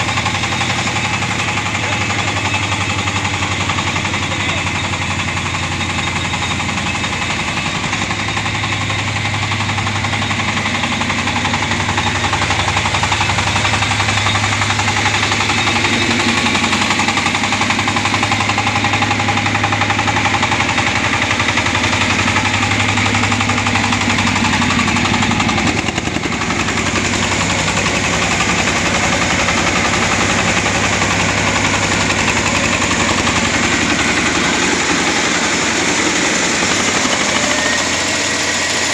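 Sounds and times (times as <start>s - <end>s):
harvester engine running hard: 0.0s - 38.9s
threshing machinery: 0.0s - 38.9s.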